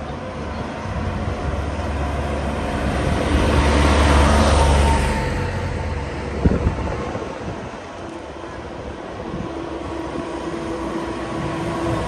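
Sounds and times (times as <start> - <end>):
vehicle passing by: 0.1 - 12.0.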